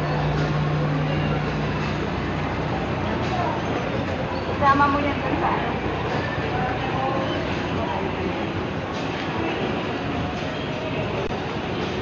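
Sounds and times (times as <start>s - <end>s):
crowd hubbub indoors: 0.0s - 12.0s
escalator running: 0.0s - 12.0s.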